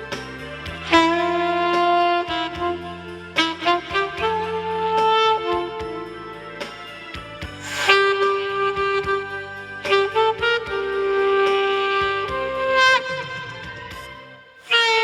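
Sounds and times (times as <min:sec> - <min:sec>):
saxophone slow melody: 0:00.8 - 0:15.0.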